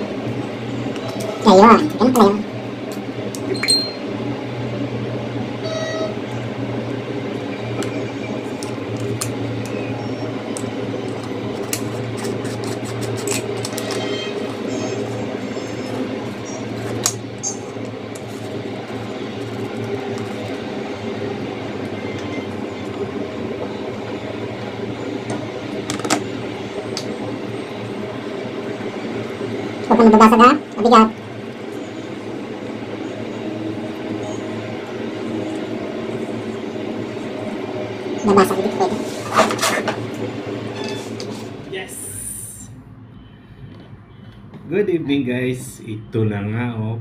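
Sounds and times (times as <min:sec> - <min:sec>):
steady low electrical hum: 0:00.0 - 0:47.0.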